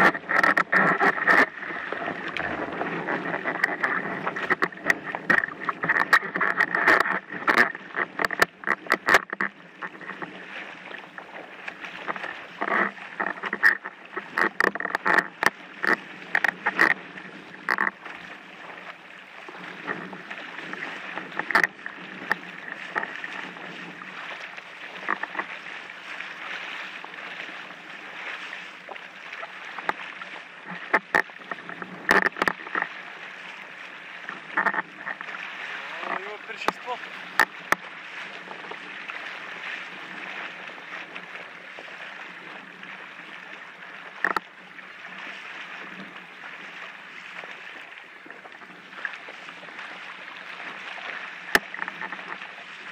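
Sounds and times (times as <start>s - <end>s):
board slapping waves: 0.0s - 52.9s
water rushing under board: 0.0s - 52.9s.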